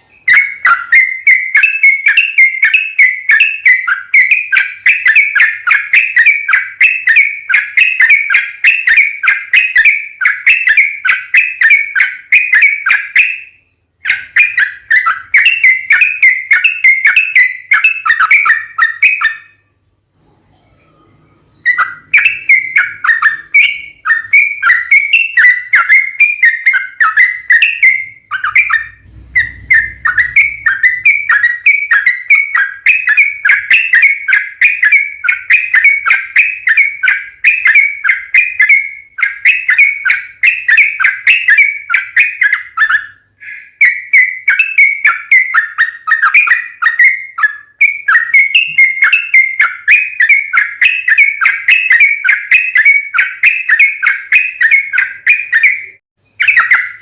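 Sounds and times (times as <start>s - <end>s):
bulbul singing chirping notes: 0.0s - 19.9s, 20.6s - 57.0s.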